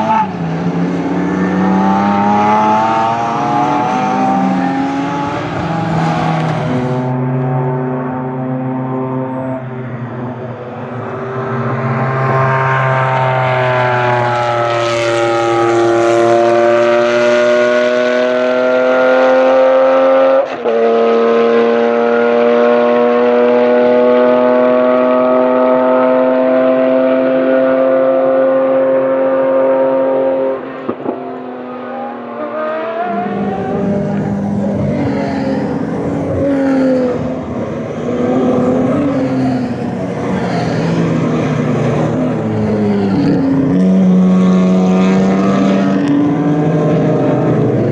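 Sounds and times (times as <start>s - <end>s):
racing car engine at high revs: 0.0s - 47.9s.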